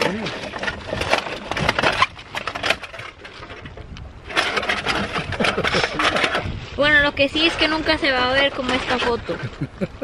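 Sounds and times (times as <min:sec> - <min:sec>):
metal windscreen rattling: 0:00.0 - 0:09.5.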